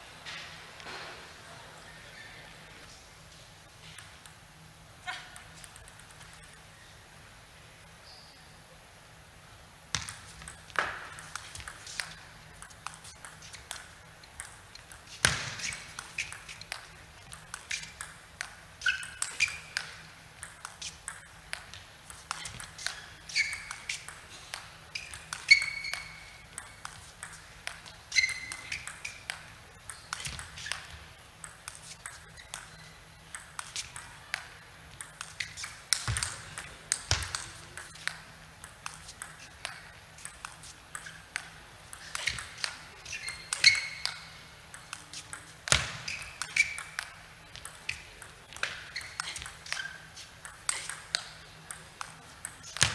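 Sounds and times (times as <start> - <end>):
table tennis ball rally: 5.0 - 6.6, 9.8 - 52.9.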